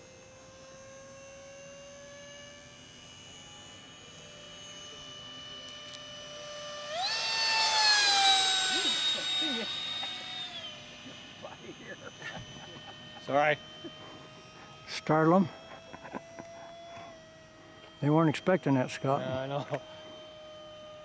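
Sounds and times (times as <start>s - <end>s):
model jet fan whine passing: 0.0s - 21.0s.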